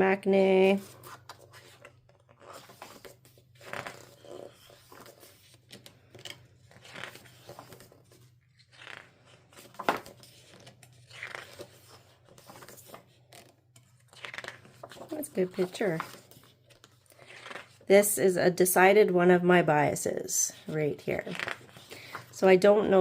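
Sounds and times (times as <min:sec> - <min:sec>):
paper pages rustling: 0:00.7 - 0:17.8, 0:20.5 - 0:22.4.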